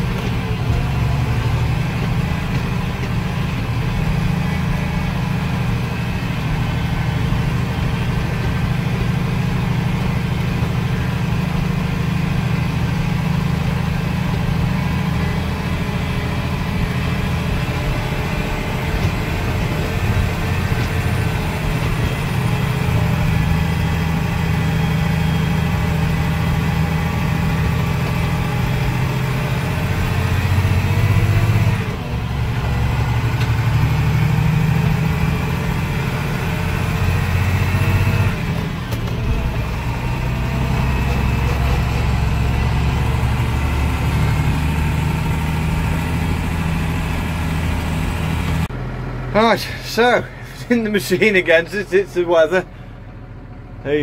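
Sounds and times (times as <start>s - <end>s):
tractor engine droning: 0.0s - 54.0s.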